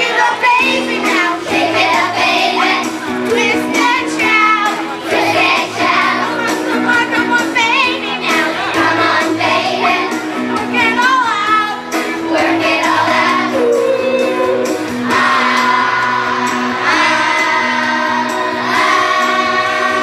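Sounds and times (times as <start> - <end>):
children's chorus singing: 0.0 - 20.0
instrumental accompaniment: 0.0 - 20.0.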